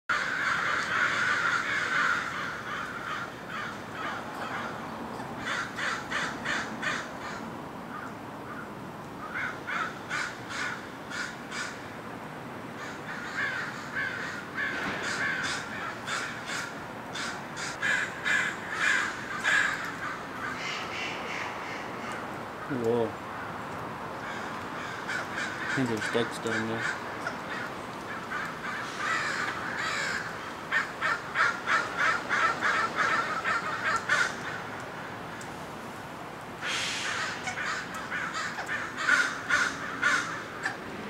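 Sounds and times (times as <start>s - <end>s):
crows cawing: 0.1s - 11.9s, 12.7s - 34.9s, 36.6s - 40.8s.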